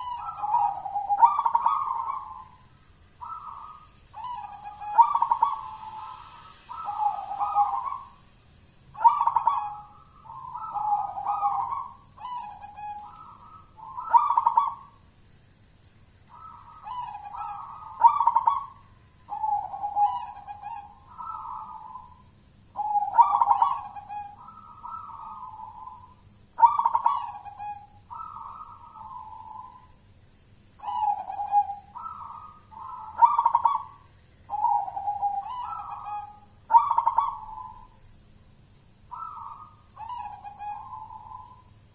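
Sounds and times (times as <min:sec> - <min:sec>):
dove cooing song: 0:00.0 - 0:15.1, 0:16.2 - 0:30.1, 0:30.8 - 0:38.2, 0:38.9 - 0:41.9.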